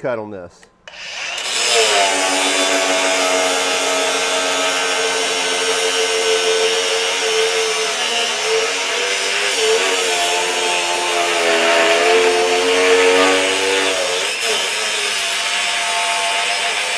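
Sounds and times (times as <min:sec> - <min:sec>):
angle grinder motor whine: 0:00.9 - 0:16.9
cut-off wheel grinding steel: 0:00.9 - 0:16.9.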